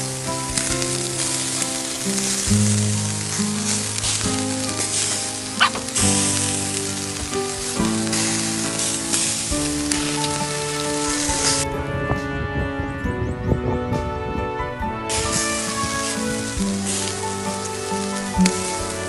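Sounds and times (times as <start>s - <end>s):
chicken skewers sizzling on grill: 0.0s - 11.6s, 15.1s - 19.0s
background music of held notes: 0.0s - 19.0s.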